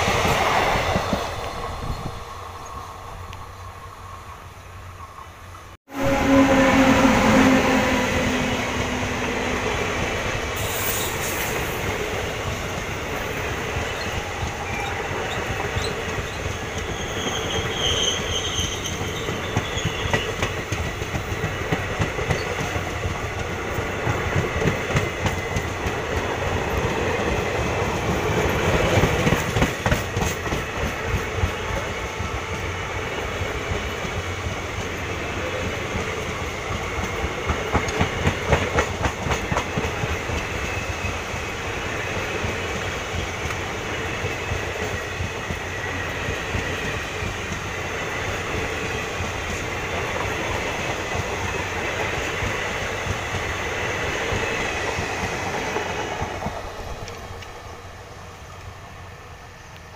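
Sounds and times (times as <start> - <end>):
train rushing past: 0.0 - 59.9.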